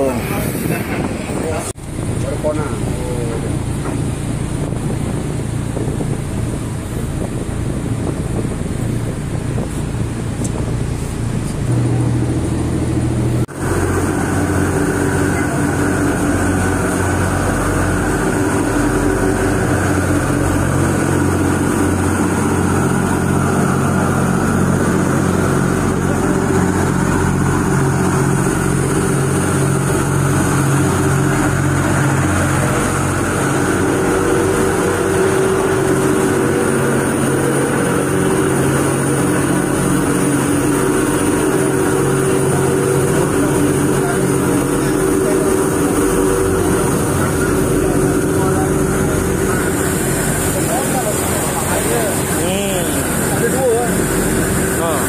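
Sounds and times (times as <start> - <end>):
ship diesel engines droning: 0.0 - 55.0
water noise: 0.0 - 55.0
wind: 0.0 - 55.0.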